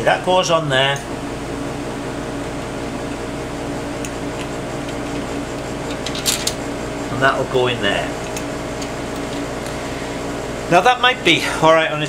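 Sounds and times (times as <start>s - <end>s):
fan-like machine hum: 0.0s - 12.0s.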